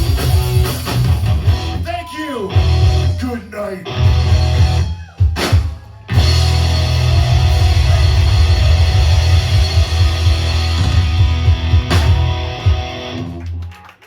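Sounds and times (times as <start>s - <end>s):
punk rock band playing: 0.0s - 13.6s.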